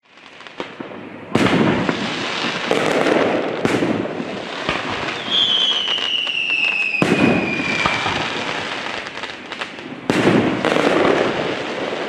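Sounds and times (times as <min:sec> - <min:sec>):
fireworks bangs: 0:00.0 - 0:12.0
fireworks crackling pops: 0:00.0 - 0:12.0
whistling firework: 0:00.0 - 0:12.0.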